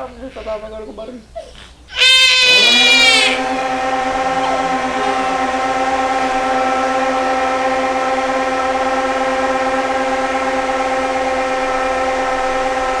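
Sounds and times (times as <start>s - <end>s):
blender motor whine: 2.0s - 13.0s.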